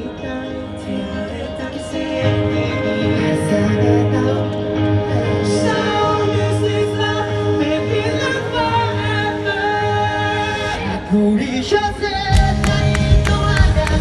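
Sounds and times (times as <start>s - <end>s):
live pop band: 0.0s - 14.0s
men singing layered vocals: 0.0s - 14.0s.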